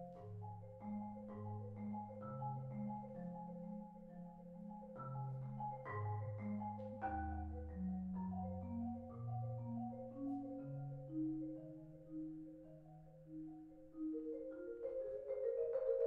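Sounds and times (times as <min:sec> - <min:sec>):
marimba music: 0:00.0 - 0:16.0.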